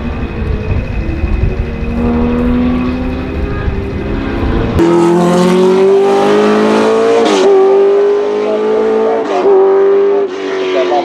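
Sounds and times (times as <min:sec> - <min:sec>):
racing car engine accelerating: 0:00.0 - 0:11.0.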